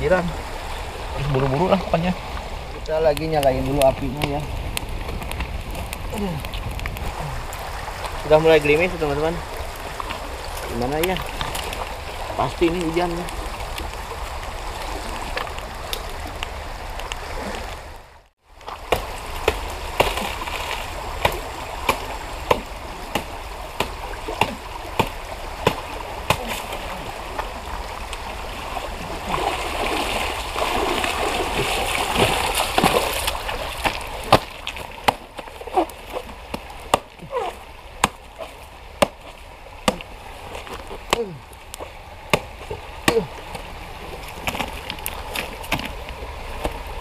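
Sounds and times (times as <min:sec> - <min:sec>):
running river water: 0:00.0 - 0:47.0.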